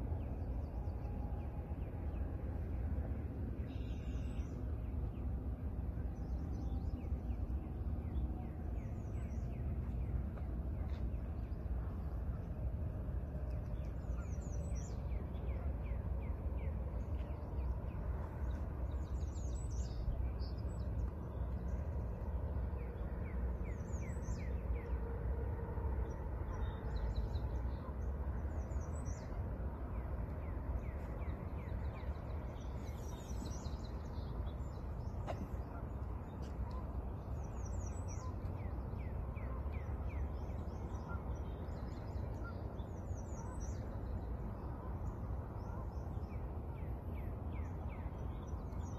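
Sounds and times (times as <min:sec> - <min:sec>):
songbirds singing: 0:00.0 - 0:48.9
steady low rumble: 0:00.0 - 0:48.9.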